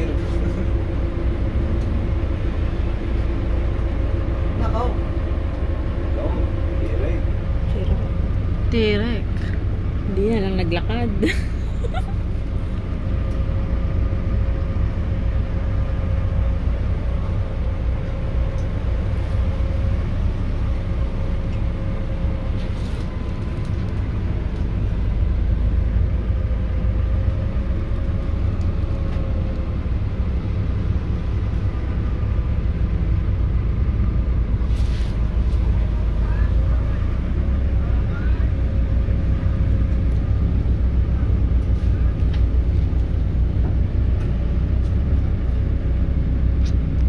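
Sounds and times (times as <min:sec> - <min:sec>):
vehicle engine rumble inside cabin: 0:00.0 - 0:47.0.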